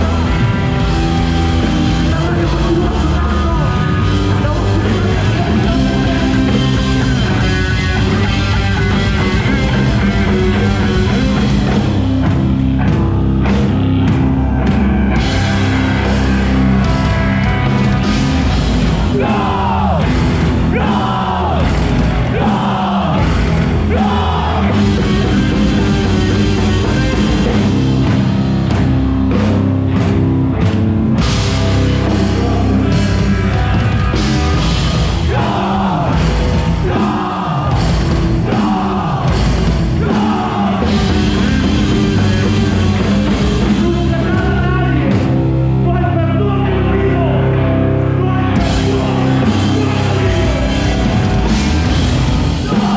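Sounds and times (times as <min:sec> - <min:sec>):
heavy rock band playing: 0:00.0 - 0:52.9.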